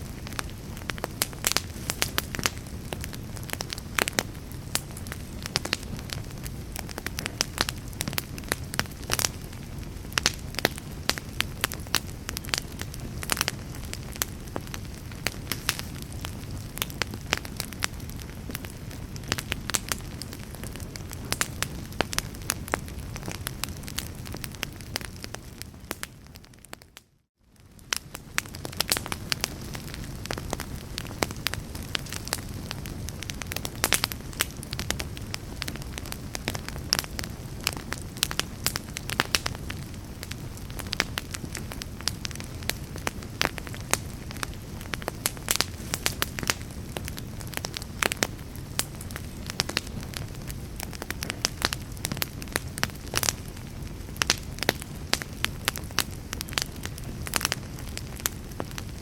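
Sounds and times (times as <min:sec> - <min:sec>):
fire crackling in fireplace: 0:00.0 - 0:59.0.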